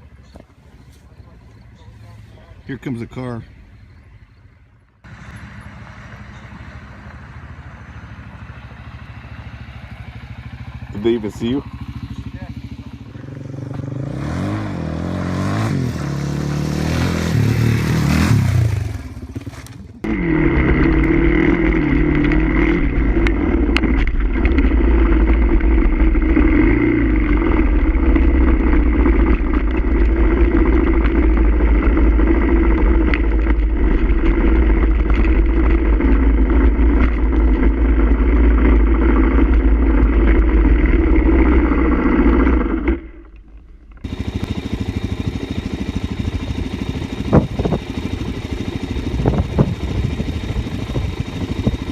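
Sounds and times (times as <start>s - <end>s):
road noise: 0.0s - 51.9s
motorcycle engine revving: 1.2s - 51.9s.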